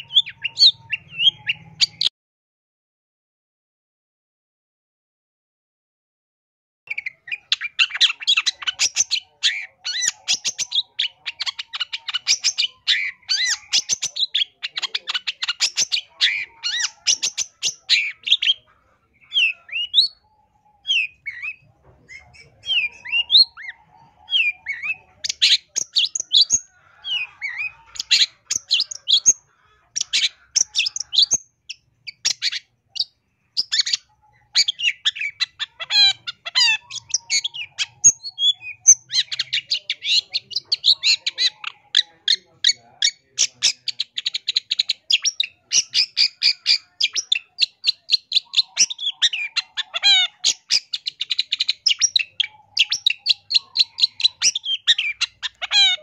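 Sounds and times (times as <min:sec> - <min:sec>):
shrike singing varied song: 0:00.0 - 0:02.1, 0:06.9 - 0:56.0.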